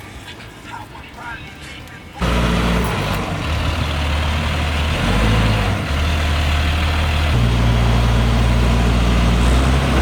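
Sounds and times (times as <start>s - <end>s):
truck engine humming: 0.0s - 10.0s.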